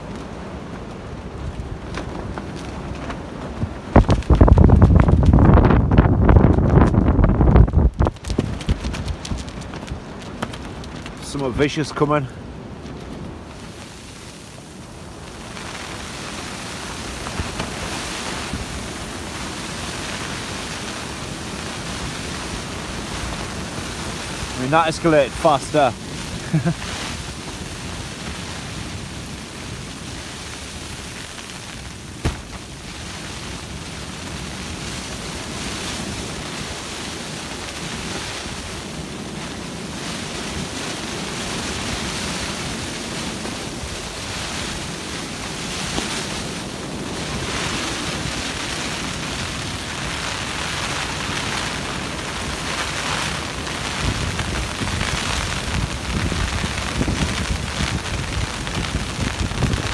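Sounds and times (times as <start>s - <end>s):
rain on a tarp: 0.0s - 59.9s
storm wind gusting: 0.0s - 59.9s
wind buffeting microphone: 0.0s - 59.9s.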